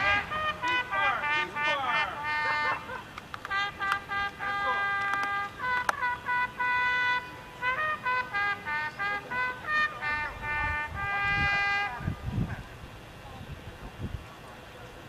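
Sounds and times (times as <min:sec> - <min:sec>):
bugle call: 0:00.0 - 0:12.2.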